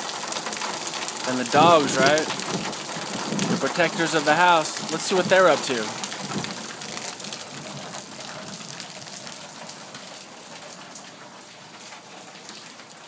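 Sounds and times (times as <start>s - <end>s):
steady rain hiss: 0.0s - 13.0s
water drips ticking: 0.0s - 13.0s.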